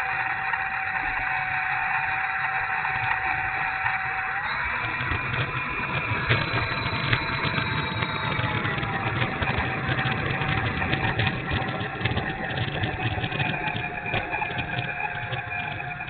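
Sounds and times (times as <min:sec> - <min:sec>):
electric ducted fans whining: 0:00.0 - 0:16.0
rapid irregular clicking and rattle: 0:00.0 - 0:16.0.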